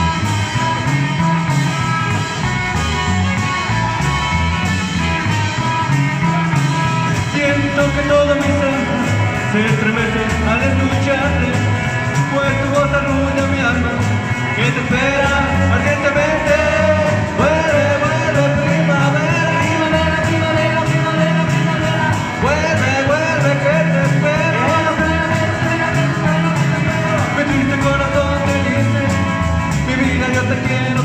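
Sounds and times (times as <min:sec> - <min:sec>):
live band playing upbeat song: 0:00.0 - 0:31.0
sliding melody line: 0:00.0 - 0:31.0.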